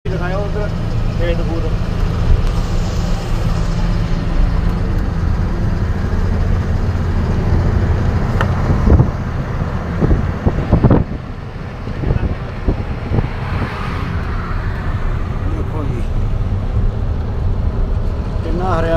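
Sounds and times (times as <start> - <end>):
road noise: 0.0 - 18.9
truck engine running: 0.1 - 18.9.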